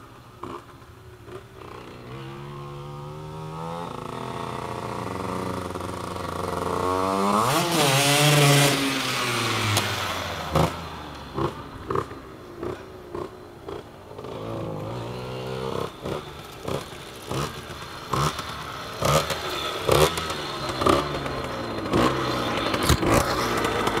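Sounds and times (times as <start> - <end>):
two-stroke moped engine running: 0.3 - 24.0.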